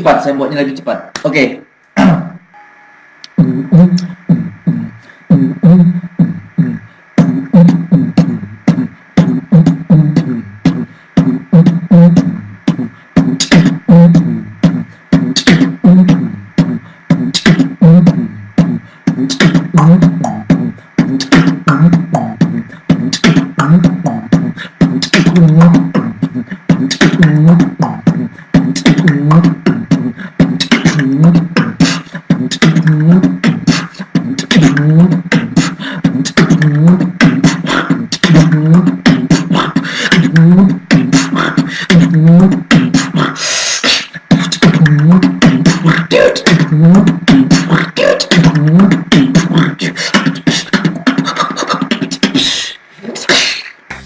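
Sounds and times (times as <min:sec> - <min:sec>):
person beatboxing: 0:00.0 - 0:02.4, 0:03.2 - 0:54.0.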